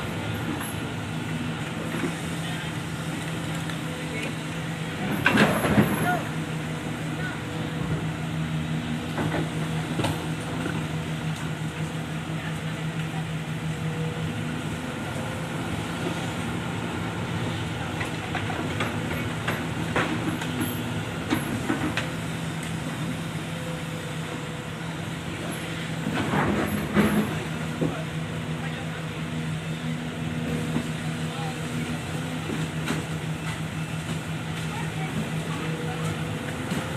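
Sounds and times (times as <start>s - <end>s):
diesel machinery running: 0.0s - 36.9s.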